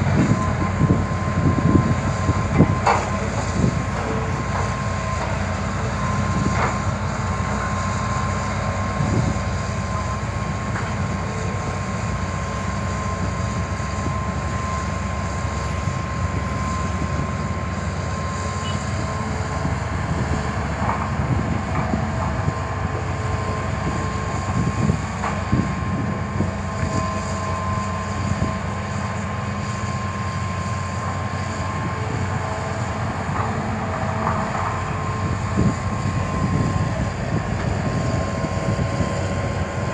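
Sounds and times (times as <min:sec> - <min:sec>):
excavator diesel engine whining: 0:00.0 - 0:39.9.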